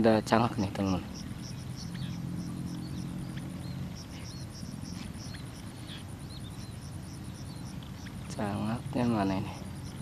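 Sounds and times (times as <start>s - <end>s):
high insect trill: 0.0s - 10.0s
bird chirps: 0.3s - 10.0s.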